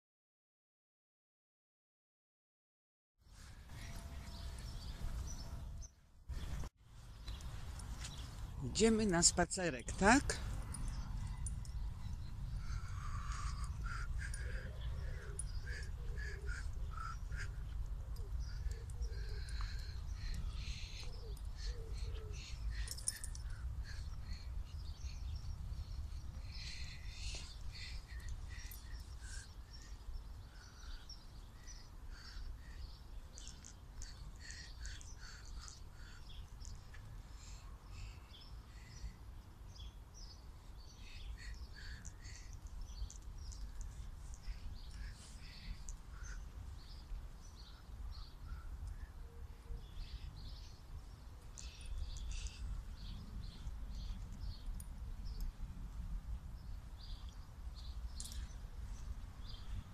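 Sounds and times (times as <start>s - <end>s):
birds chirping and calling: 3.4s - 55.5s, 57.0s - 59.9s.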